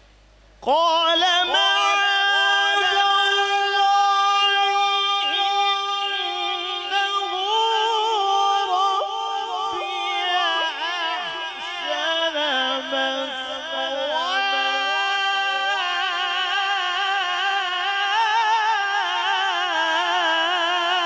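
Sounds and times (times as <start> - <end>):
man reciting melodically: 0.6 - 21.0.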